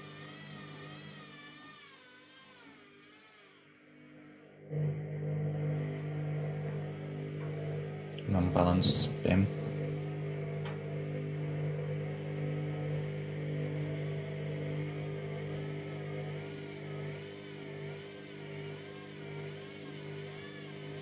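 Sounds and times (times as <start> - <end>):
washing machine drum motor hum: 0.0 - 1.6, 4.6 - 21.0
wavering motor whine: 0.0 - 21.0.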